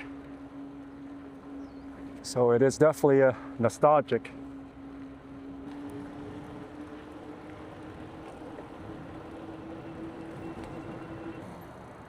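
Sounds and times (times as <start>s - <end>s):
steady low hum: 0.0s - 11.4s
bike tyres rolling on pavement: 0.0s - 12.0s.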